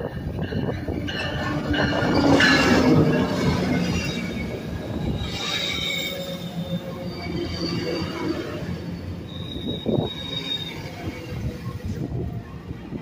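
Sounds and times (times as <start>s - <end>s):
diesel locomotive passing: 0.0s - 13.0s
passenger coaches rolling past: 0.0s - 13.0s
high-pitched wheel squeal: 1.2s - 12.1s.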